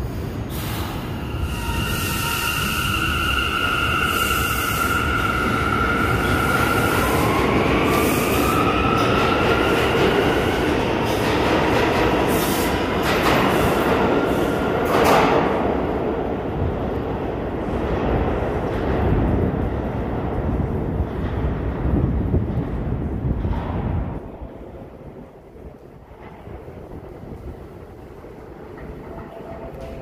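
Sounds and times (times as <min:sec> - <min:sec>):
subway train rumble: 0:00.0 - 0:30.0.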